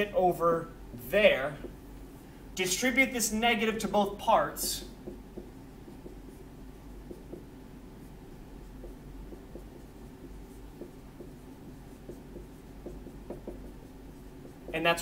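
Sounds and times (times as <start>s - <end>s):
marker writing on whiteboard: 1.0s - 2.2s, 3.2s - 15.0s.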